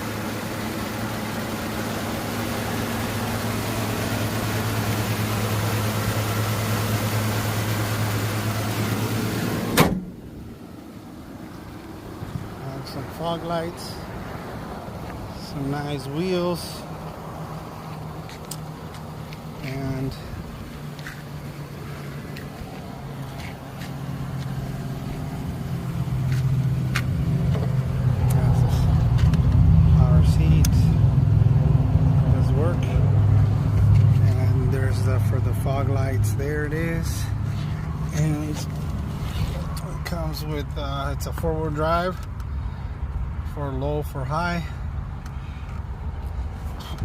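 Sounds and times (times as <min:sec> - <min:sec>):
truck mechanical hum: 0:00.0 - 0:47.0.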